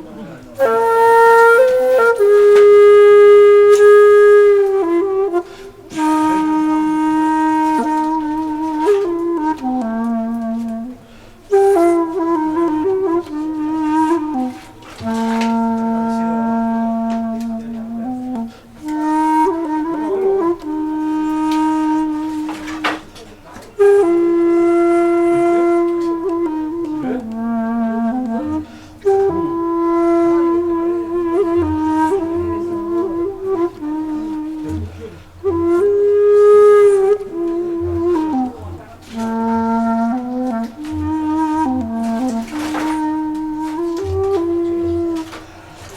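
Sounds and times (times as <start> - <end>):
solo flute-like wind instrument: 0.0 - 45.9.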